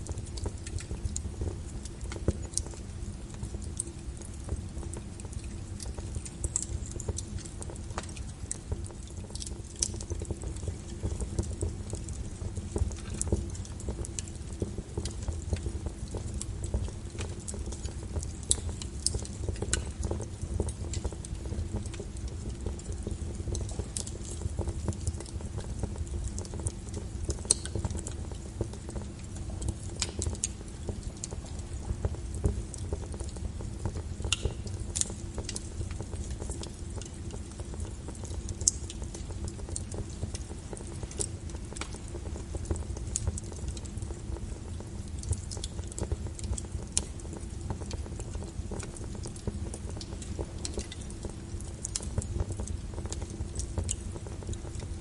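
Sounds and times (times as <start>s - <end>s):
fire rumbling: 0.0s - 55.0s
wood crackling and popping: 0.0s - 55.0s.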